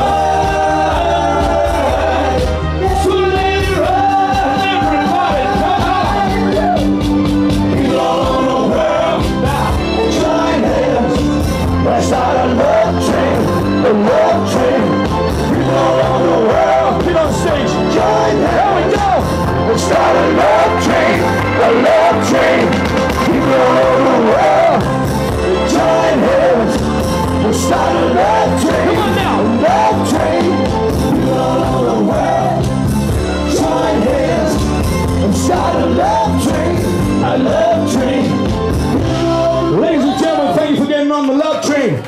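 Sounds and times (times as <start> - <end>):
man singing into microphone: 0.0 - 6.8, 11.8 - 32.6, 33.5 - 41.6
live band playing: 0.0 - 41.2.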